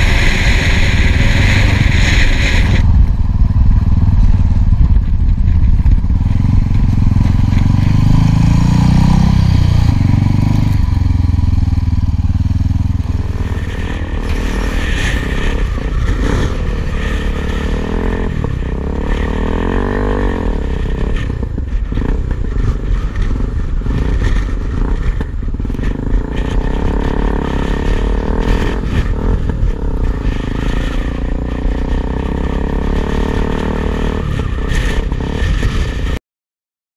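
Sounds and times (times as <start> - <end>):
motorcycle engine running: 0.0 - 36.2.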